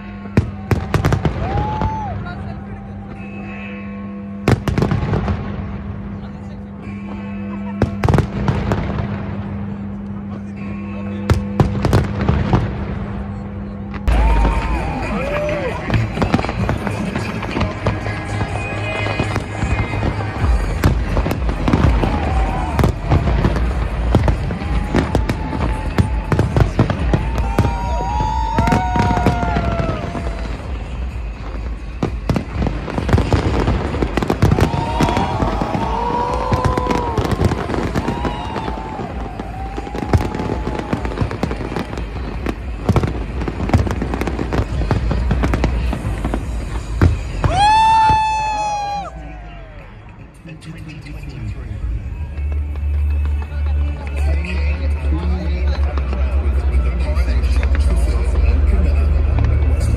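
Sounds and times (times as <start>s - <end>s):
fireworks bangs and crackles: 0.0s - 59.9s
music: 0.0s - 59.9s.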